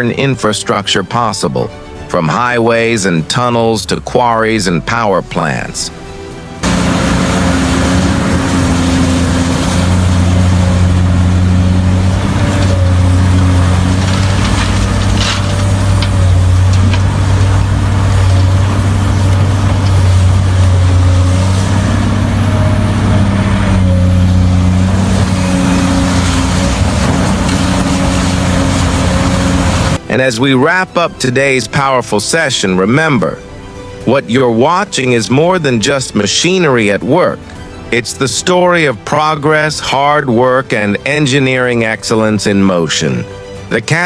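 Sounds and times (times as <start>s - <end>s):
heavy diesel engines running: 1.2s - 30.1s, 35.4s - 44.0s.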